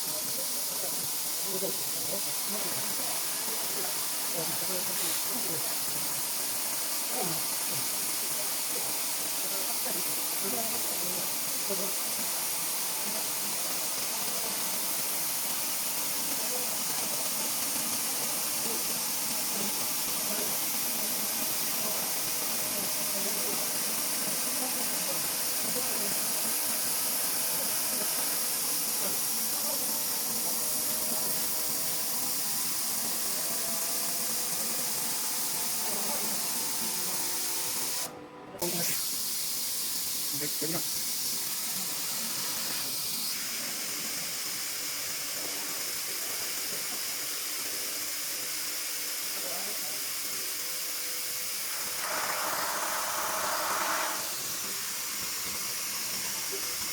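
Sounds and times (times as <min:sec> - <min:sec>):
laser marking machine hissing: 0:00.0 - 0:56.9.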